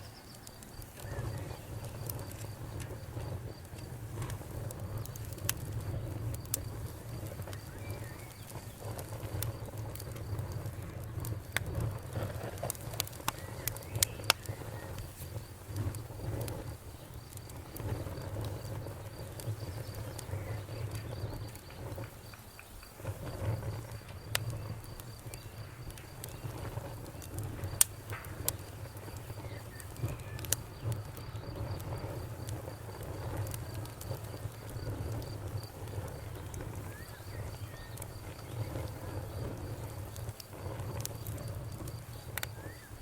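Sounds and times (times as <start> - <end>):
campfire crackling: 0.0 - 43.0
crickets chirping: 0.0 - 43.0.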